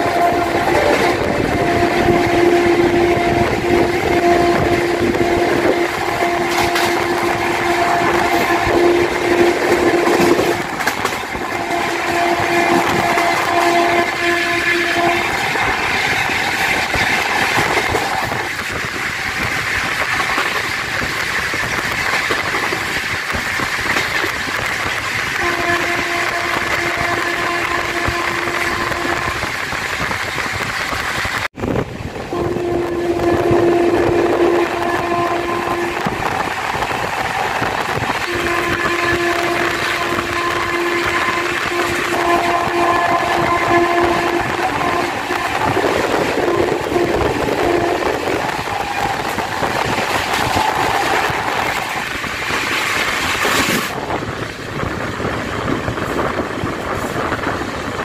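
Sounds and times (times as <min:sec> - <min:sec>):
locomotive horn blasts: 0:00.0 - 0:22.5, 0:23.8 - 0:30.6, 0:32.2 - 0:54.0
train wheel and track noise: 0:00.0 - 0:58.0.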